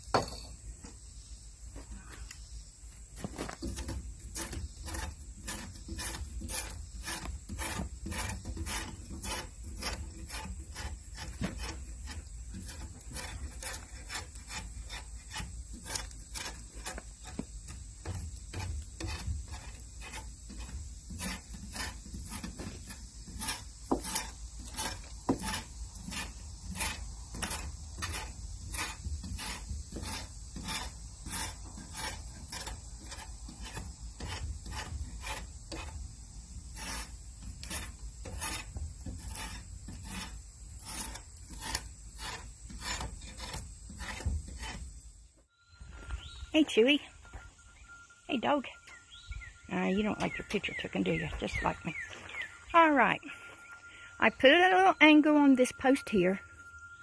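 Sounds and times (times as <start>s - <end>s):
hand tool scraping wooden log: 1.7s - 45.2s, 48.3s - 56.5s.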